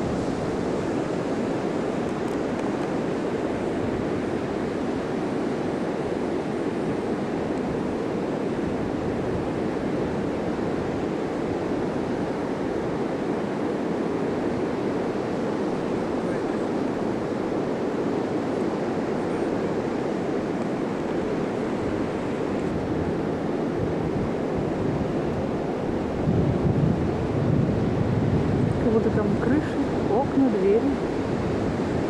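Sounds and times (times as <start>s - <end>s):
ocean waves breaking: 0.0s - 32.0s
wind: 0.0s - 32.0s.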